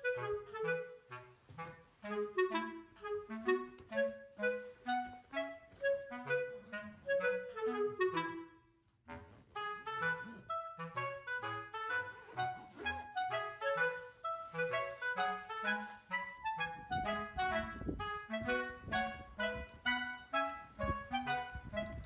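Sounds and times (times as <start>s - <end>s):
bouncy background music: 0.0s - 22.0s.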